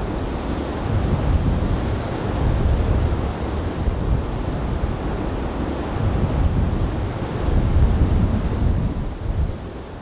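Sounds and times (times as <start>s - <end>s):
gusty wind on microphone: 0.0s - 10.0s.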